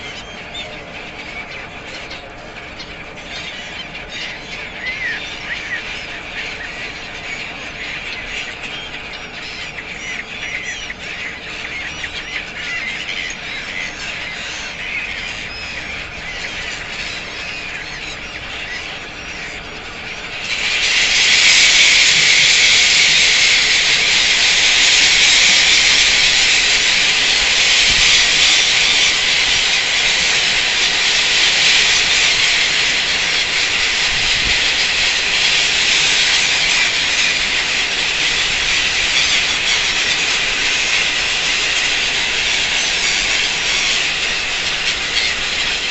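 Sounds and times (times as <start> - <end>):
gulls screeching: 0.0 - 45.9.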